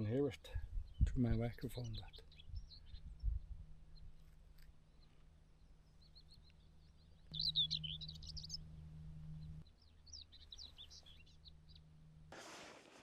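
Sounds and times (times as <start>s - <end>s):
bird singing scratchy warble: 0.0s - 12.3s.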